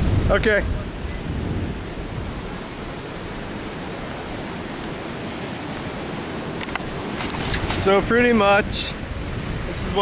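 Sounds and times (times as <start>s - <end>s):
ocean surf: 0.0s - 10.0s
wind on microphone: 0.0s - 10.0s.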